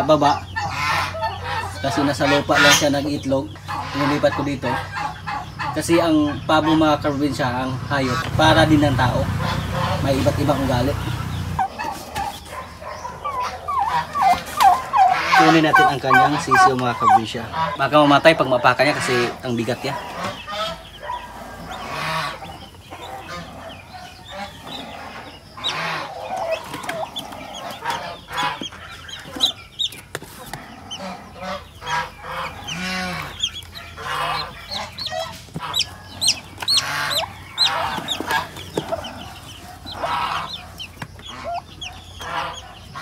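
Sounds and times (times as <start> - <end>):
chicks cheeping: 0.0 - 43.0
poultry clucking: 0.0 - 43.0.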